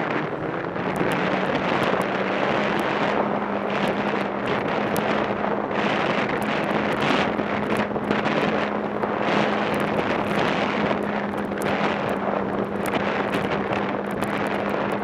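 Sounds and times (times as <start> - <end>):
snowmobile engine droning: 0.0 - 15.0
wind rushing over microphone: 0.0 - 15.0.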